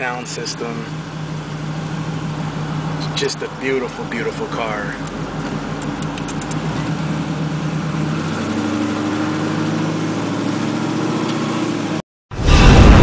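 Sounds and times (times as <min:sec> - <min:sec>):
car engine running while driving: 0:00.0 - 0:12.0.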